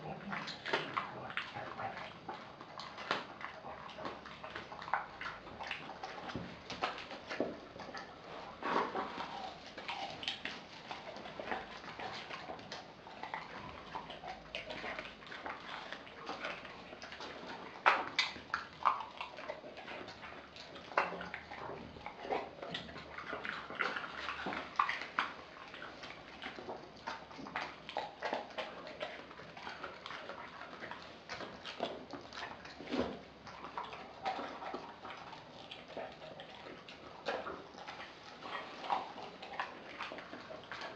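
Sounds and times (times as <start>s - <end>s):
dog chewing and licking: 0.0s - 40.9s.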